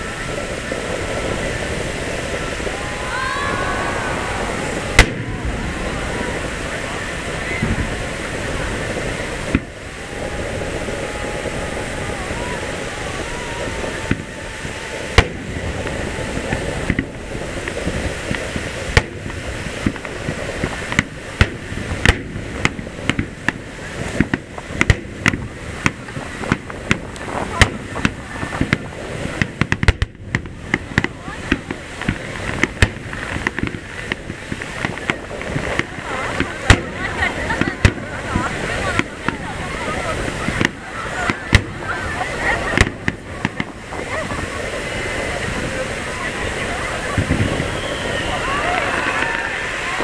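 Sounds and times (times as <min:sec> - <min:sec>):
crowd chatter: 0:00.0 - 0:50.0
firework bangs and booms: 0:00.0 - 0:50.0
rising firework whistle: 0:00.0 - 0:50.0.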